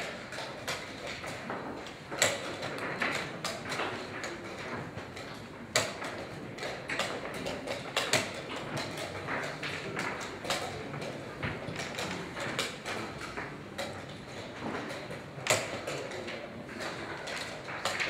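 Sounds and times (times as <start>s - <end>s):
chess pieces knocking on boards: 0.1s - 18.0s.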